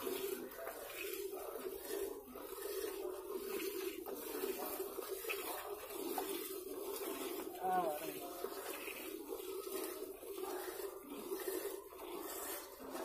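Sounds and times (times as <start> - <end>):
milk squirting into steel pail: 0.0 - 13.0.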